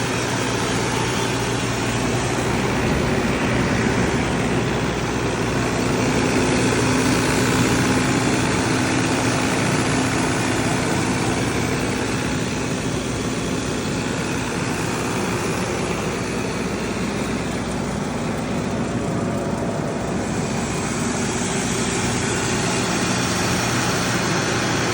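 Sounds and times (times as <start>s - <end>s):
diesel generator running: 0.0s - 24.9s.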